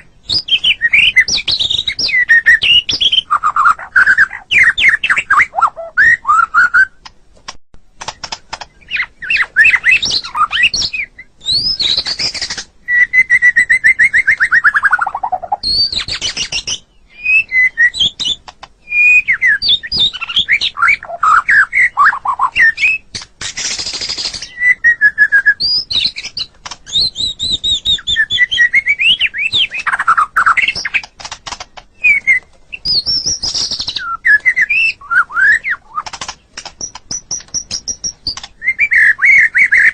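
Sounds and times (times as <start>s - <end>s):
songbird whistling and trilling: 0.0s - 7.1s, 8.6s - 39.9s.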